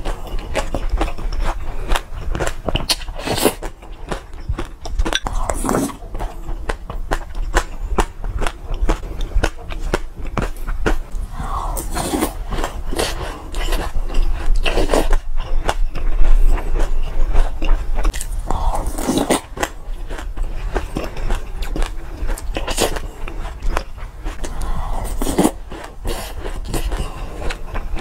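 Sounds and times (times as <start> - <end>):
chewing crunchy seeds: 0.0 - 28.0.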